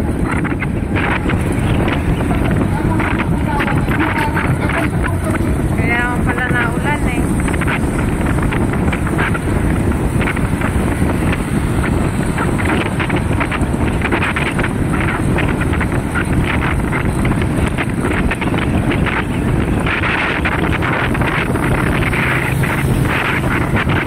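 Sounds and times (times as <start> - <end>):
engine and road noise rumble: 0.0 - 24.0
wind buffeting microphone: 0.0 - 24.0.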